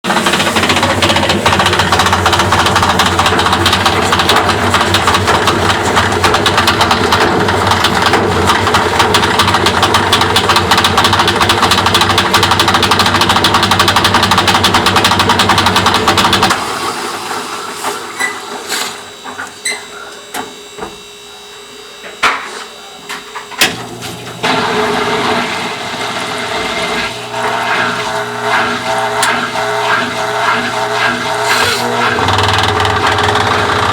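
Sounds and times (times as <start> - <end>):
washing machine hum: 0.0 - 33.9.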